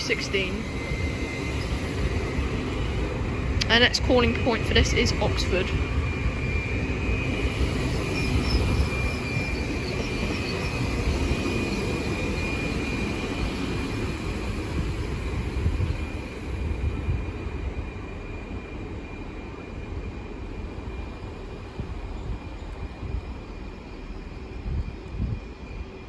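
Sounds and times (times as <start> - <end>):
train rumble and high whine: 0.0 - 26.0.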